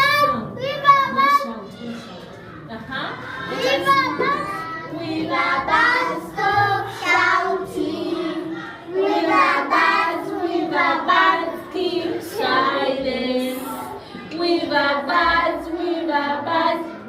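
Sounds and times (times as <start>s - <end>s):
young children singing: 3.3s - 17.0s.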